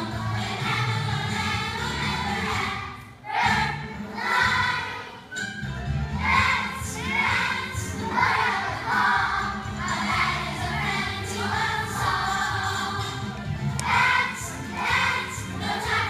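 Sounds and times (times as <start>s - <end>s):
children's choir singing: 0.0s - 16.0s
musical accompaniment: 0.0s - 16.0s.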